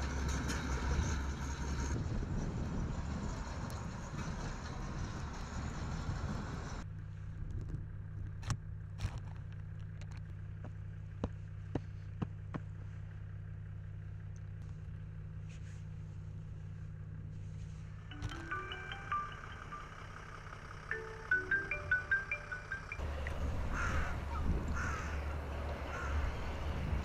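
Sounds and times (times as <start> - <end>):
bulldozer engine and tracks rushing: 0.0 - 27.0
diesel engine idling hum: 0.0 - 27.0.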